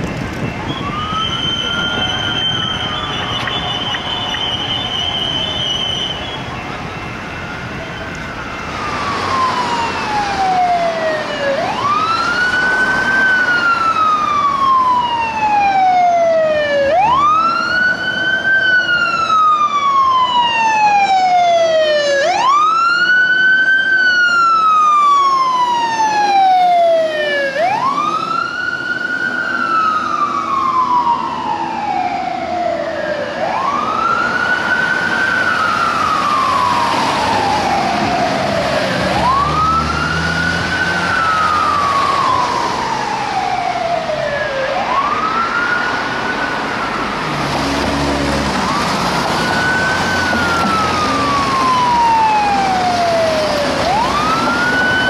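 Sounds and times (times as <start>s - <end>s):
fire engine siren wailing: 0.0s - 55.0s
passing traffic: 0.0s - 55.0s
second siren: 0.0s - 55.0s.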